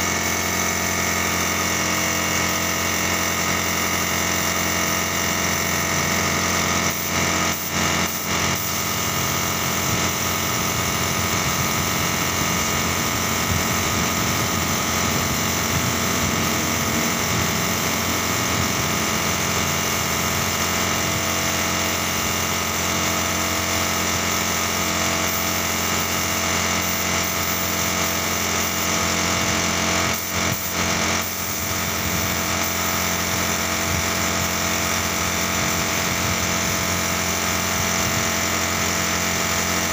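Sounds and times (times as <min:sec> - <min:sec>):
air compressor humming: 0:00.0 - 0:39.9
paint spray gun hissing: 0:00.0 - 0:39.9.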